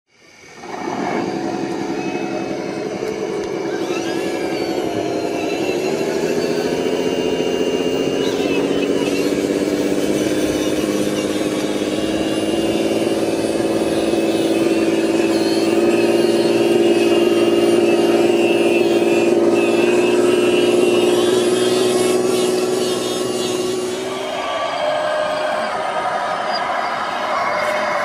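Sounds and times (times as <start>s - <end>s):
toy truck motor whine: 0.1s - 28.0s.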